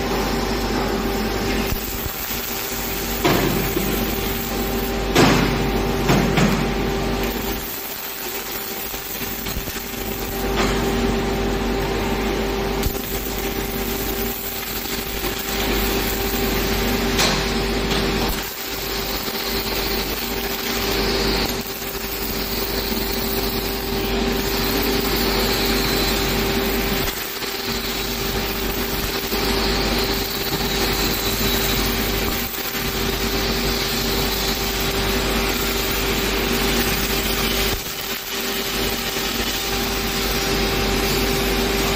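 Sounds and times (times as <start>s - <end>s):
steady hum: 0.0s - 41.9s
welding arcs crackling: 0.0s - 41.9s.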